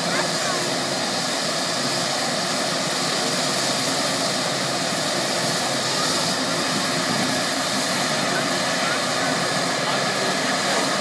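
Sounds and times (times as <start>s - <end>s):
helicopter turbine and rotor noise: 0.0s - 11.0s.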